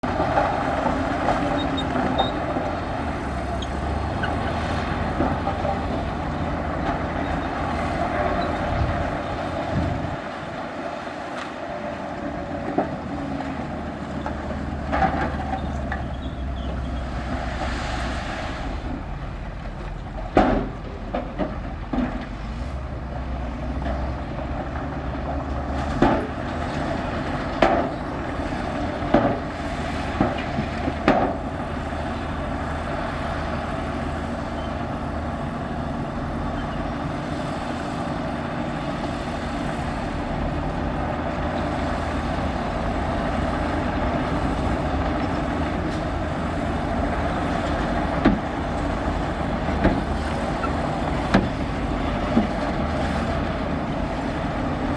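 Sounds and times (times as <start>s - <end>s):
diesel earthmoving machinery running: 0.0s - 54.9s.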